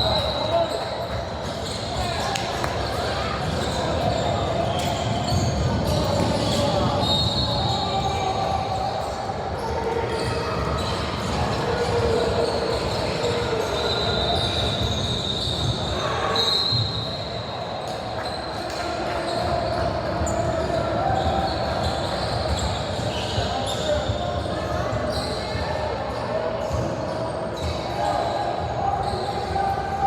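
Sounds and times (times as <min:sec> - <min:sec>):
sneakers squeaking on floor: 0:00.0 - 0:30.0
voices echoing in hall: 0:00.0 - 0:30.0.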